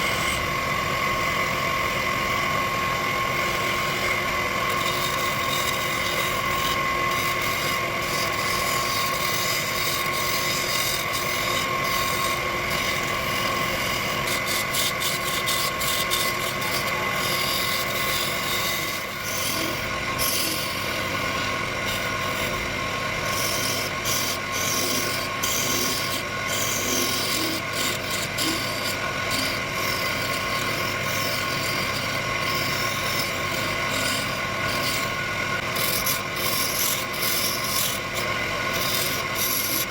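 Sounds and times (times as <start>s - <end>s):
wood lathe whine: 0.0s - 39.9s.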